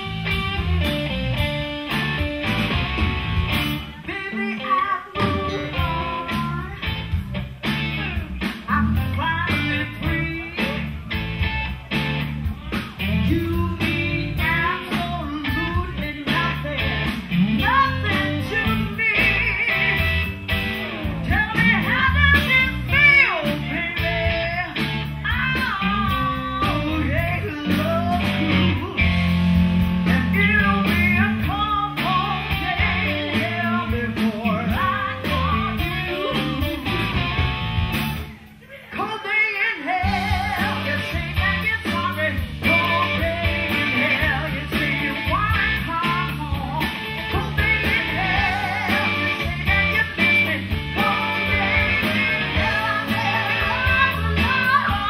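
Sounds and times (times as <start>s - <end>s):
blues-rock band playing: 0.0s - 55.0s
woman singing: 3.8s - 7.0s, 8.1s - 11.0s, 12.9s - 20.3s, 21.0s - 29.2s, 30.0s - 37.0s, 38.6s - 55.0s.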